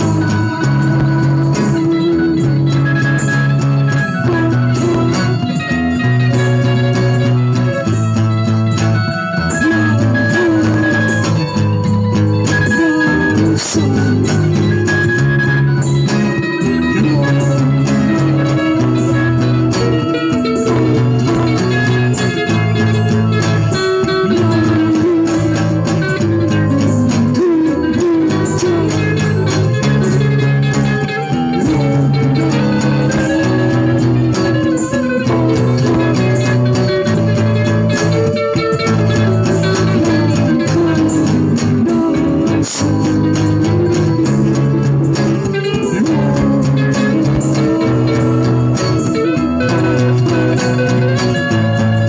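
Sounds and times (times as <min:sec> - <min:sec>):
guitar playing: 0:00.0 - 0:52.0
repeating bass line: 0:00.0 - 0:52.0.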